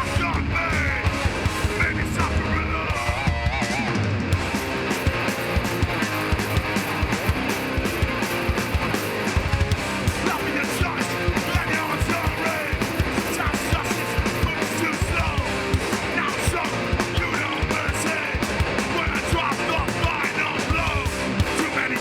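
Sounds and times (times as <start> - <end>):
bass guitar: 0.0 - 22.0
distorted electric guitars: 0.0 - 22.0
fast dense drumming: 0.0 - 22.0.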